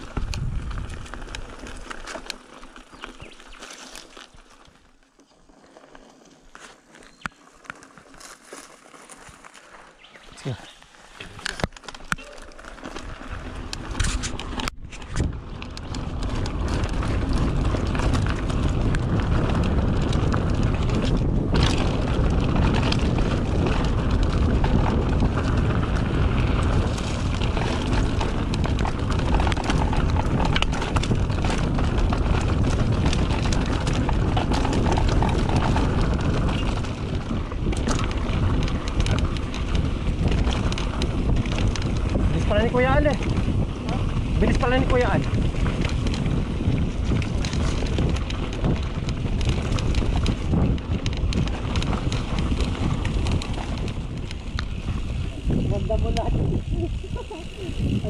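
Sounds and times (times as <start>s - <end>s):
wind rushing over microphone: 0.0s - 1.9s, 12.8s - 58.0s
bike rattling on rough ground: 0.0s - 58.0s.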